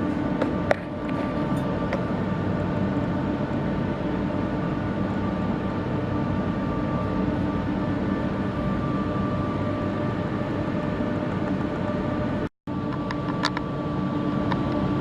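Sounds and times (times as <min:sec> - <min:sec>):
faint constant whine: 0:00.0 - 0:15.0
machine engine running: 0:00.0 - 0:15.0.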